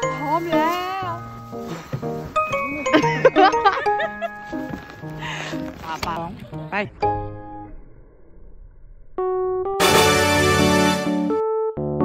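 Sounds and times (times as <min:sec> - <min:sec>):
piano music: 0:00.0 - 0:08.0, 0:09.2 - 0:12.0.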